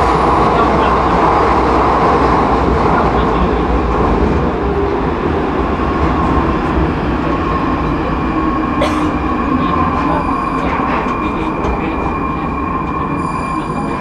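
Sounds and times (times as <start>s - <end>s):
metro train rumbling in tunnel: 0.0s - 14.0s.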